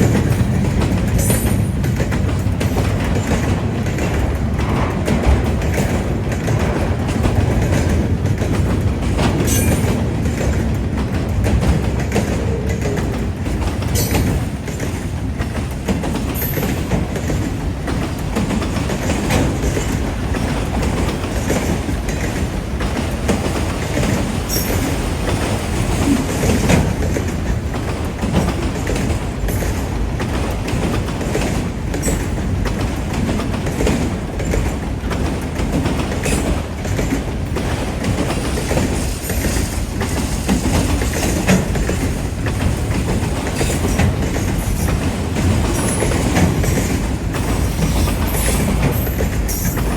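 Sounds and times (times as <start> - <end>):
train wheels clacking over rail: 0.0 - 49.9.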